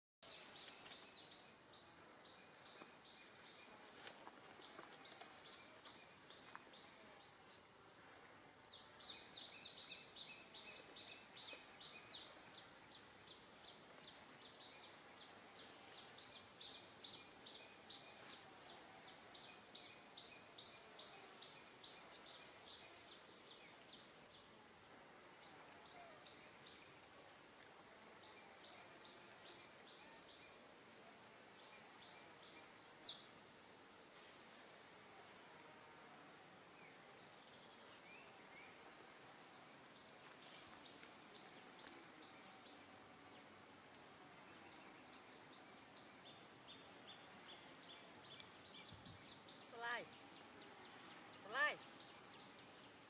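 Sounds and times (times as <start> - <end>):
faint outdoor ambience: 0.2 - 53.0.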